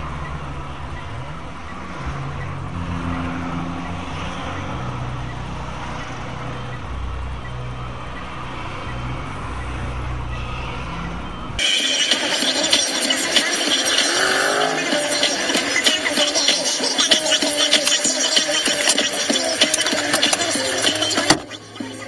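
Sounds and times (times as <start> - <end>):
street traffic: 0.0 - 22.0
harsh noise: 1.3 - 22.0.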